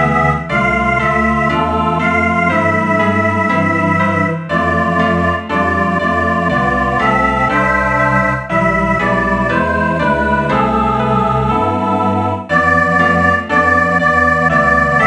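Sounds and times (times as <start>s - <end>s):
synthesized organ-like chords: 0.0s - 15.0s.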